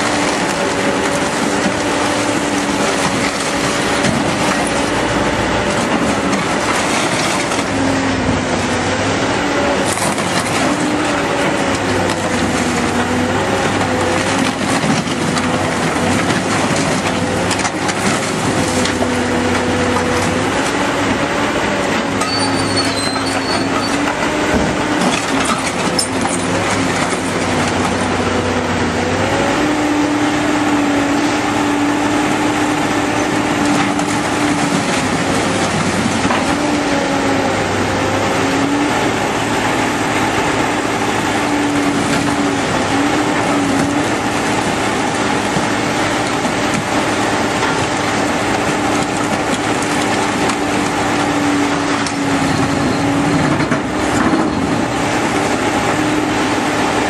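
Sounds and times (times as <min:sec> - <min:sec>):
metal scraping and crunching: 0:00.0 - 0:29.1, 0:29.7 - 0:37.2, 0:37.9 - 0:57.0
demolition machine engine and hydraulics: 0:00.0 - 0:57.0.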